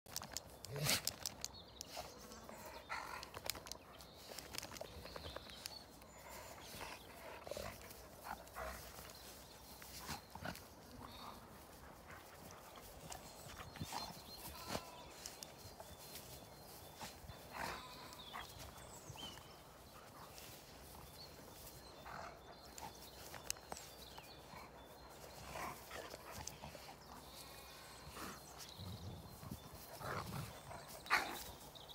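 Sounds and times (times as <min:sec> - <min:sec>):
paws rustling through grass: 0:00.2 - 0:31.9
dogs growling and huffing: 0:02.0 - 0:14.8, 0:15.4 - 0:31.9.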